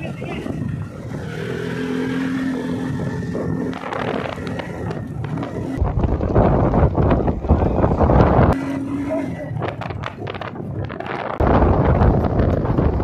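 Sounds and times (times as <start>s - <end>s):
atv engine running: 0.0s - 13.0s
wind buffeting microphone: 0.0s - 13.0s.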